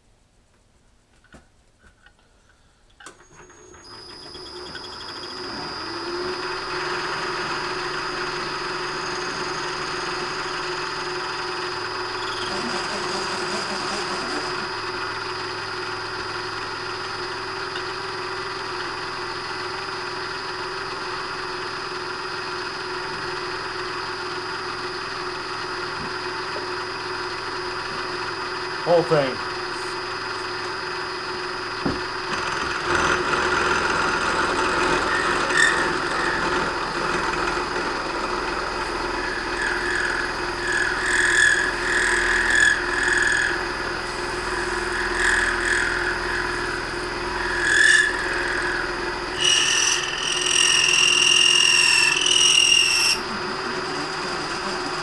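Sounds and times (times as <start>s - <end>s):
milling machine spindle whine: 3.1s - 55.0s.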